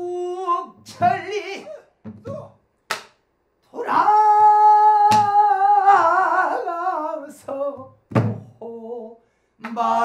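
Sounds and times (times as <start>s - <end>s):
person singing with vibrato: 0.0s - 2.6s, 3.6s - 10.0s.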